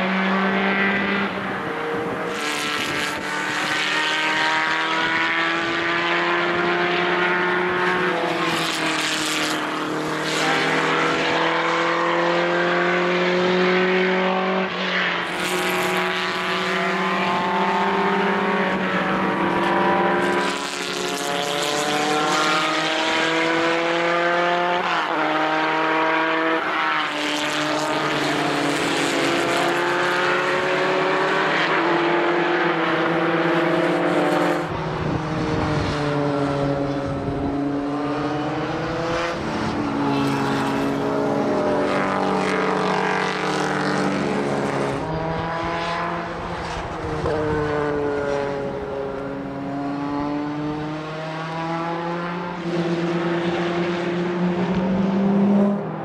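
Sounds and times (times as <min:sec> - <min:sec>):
racing car engines accelerating: 0:00.0 - 0:56.0.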